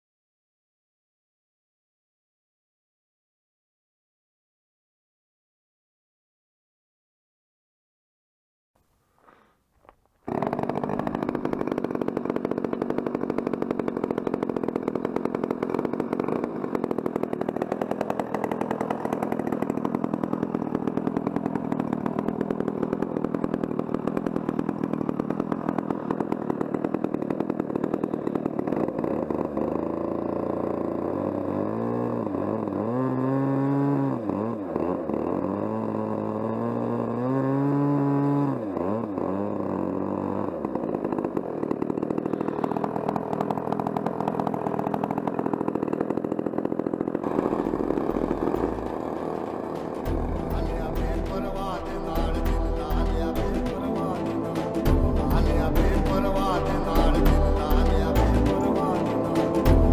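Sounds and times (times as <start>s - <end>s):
model aircraft engine running: 9.3s - 59.9s.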